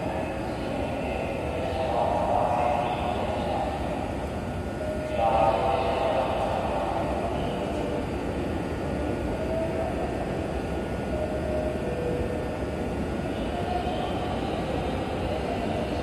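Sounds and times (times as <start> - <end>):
electric train humming: 0.0 - 16.0
faint high whine: 0.0 - 16.0.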